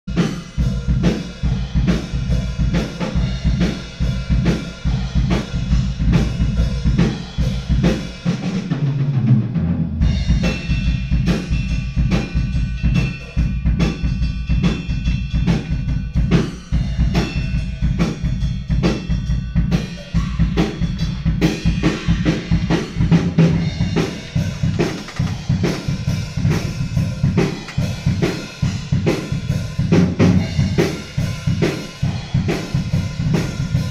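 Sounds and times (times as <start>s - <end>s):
drum kit beat: 0.1s - 33.9s
low bass: 0.6s - 33.9s.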